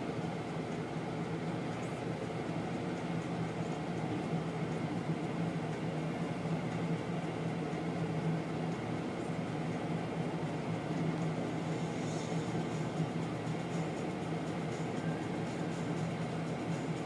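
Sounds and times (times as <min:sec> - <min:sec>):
diesel machines running: 0:00.0 - 0:17.0.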